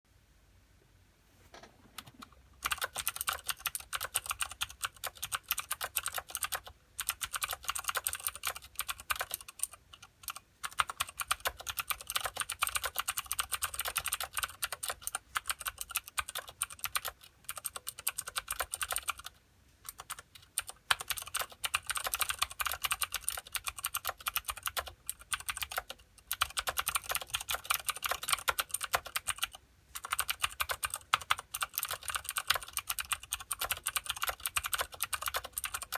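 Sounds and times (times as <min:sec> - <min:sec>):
fast typing on mechanical keyboard: 0:02.0 - 0:35.9.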